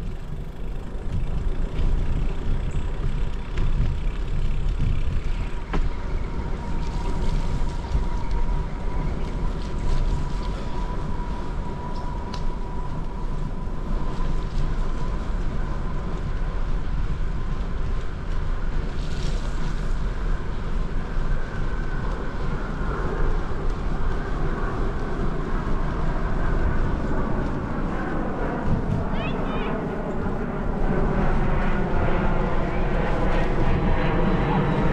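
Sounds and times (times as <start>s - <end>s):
bicycle rolling on trail: 0.0s - 34.9s
wind rumbling on microphone: 0.0s - 34.9s.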